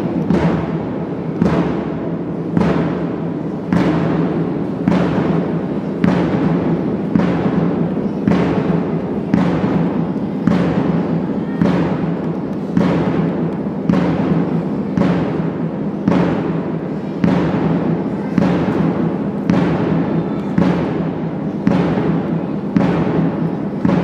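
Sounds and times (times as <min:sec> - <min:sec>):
heavy drum strokes: 0:00.0 - 0:24.0.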